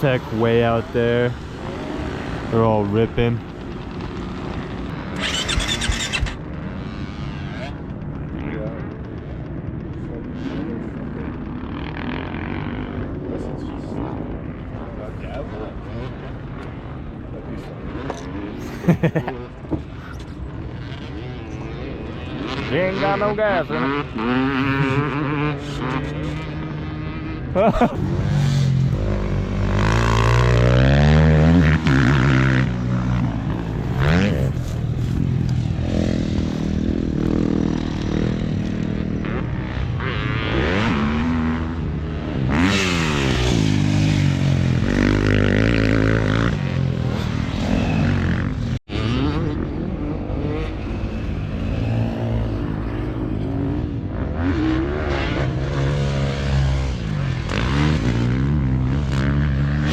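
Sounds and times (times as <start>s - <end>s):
dirt bike engine revving: 0.0s - 17.1s, 19.8s - 59.9s.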